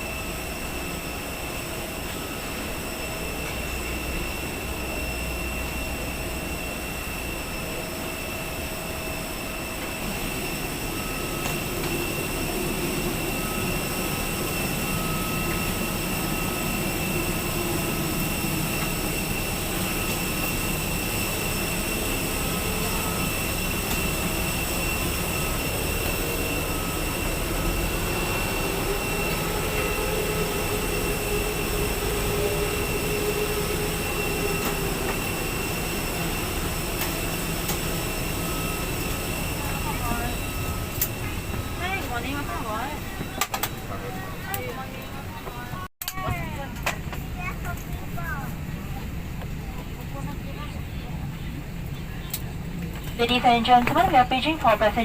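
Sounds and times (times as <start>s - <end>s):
high whine: 0.0s - 50.3s
airliner cabin hum: 0.0s - 55.0s.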